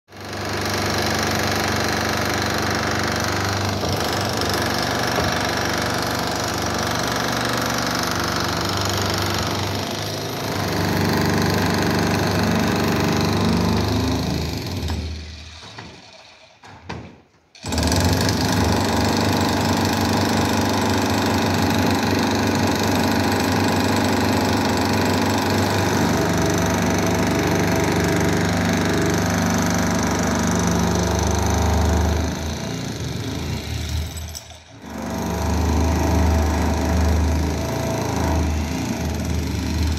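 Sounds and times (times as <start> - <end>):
electric demolition hammer: 0.2 - 39.9.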